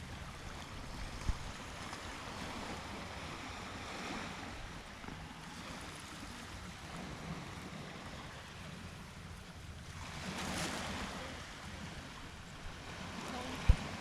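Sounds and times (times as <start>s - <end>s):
sea waves washing on shore: 0.0s - 14.0s
wind rumbling on microphone: 0.0s - 14.0s.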